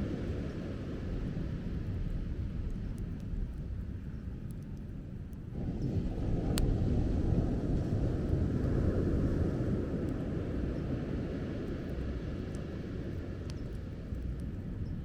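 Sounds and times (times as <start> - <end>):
bonfire crackling and popping: 0.3 - 15.0.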